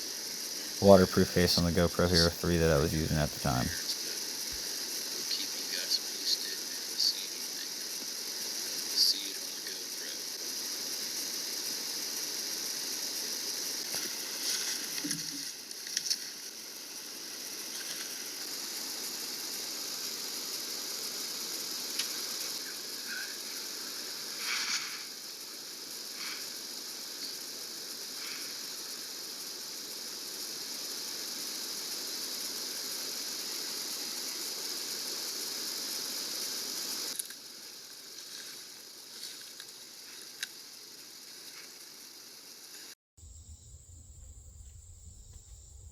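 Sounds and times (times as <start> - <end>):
insect chorus drone: 0.0 - 45.9.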